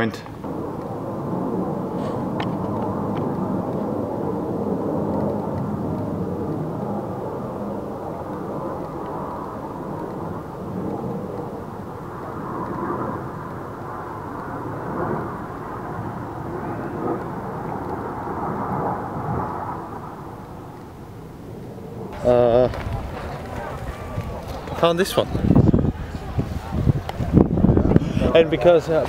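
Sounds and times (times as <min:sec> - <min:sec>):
jet aircraft rumbling overhead: 0:00.0 - 0:29.0.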